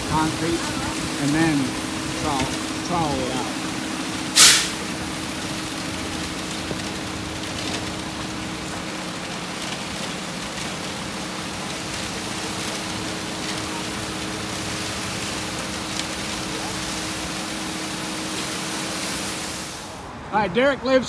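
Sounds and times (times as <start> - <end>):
even rushing noise: 0.0 - 20.6
concrete mixer engine hum: 0.0 - 21.0.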